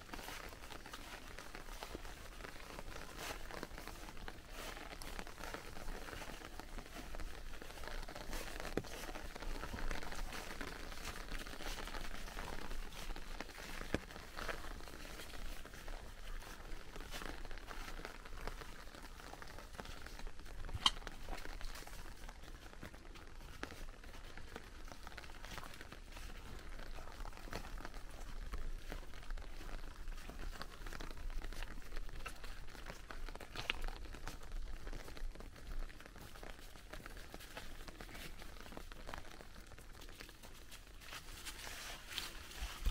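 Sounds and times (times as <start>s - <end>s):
footsteps crunching through leaves: 0.0s - 30.9s, 36.8s - 42.9s.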